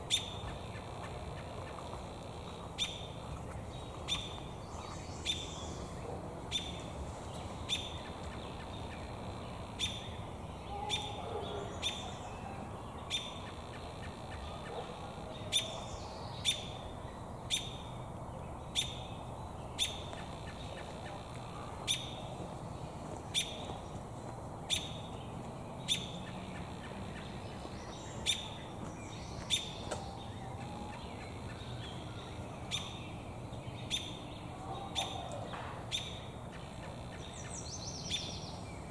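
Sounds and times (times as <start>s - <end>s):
robin chirping: 0.1s - 1.6s, 3.8s - 6.8s, 7.6s - 16.8s, 18.7s - 22.3s, 23.3s - 23.7s, 24.6s - 38.9s.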